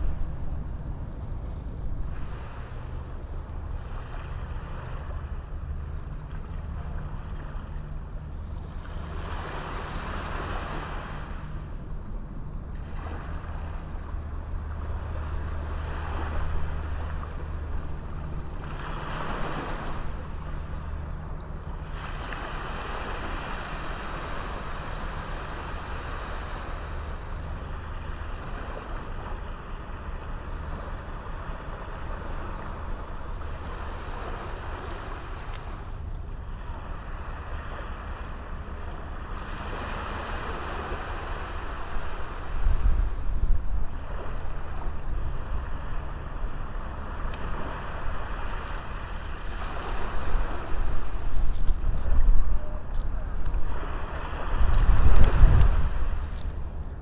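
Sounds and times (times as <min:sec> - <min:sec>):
sea waves washing onto beach: 0:00.0 - 0:11.8, 0:12.8 - 0:57.0
steady low rumble: 0:00.0 - 0:57.0.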